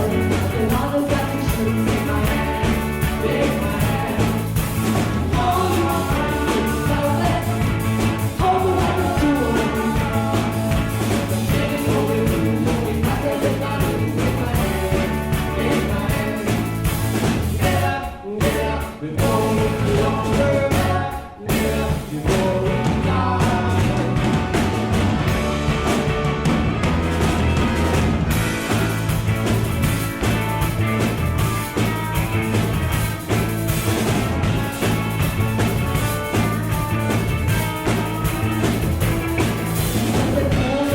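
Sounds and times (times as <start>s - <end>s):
live rock band with accordion: 0.0s - 40.9s.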